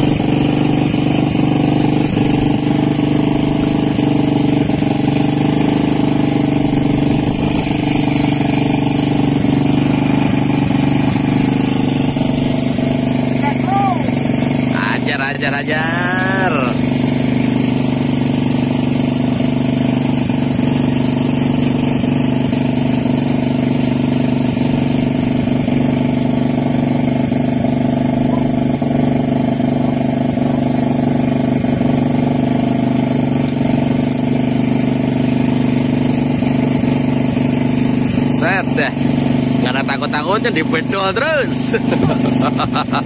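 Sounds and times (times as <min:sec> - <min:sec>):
engine droning steadily: 0:00.0 - 0:43.0.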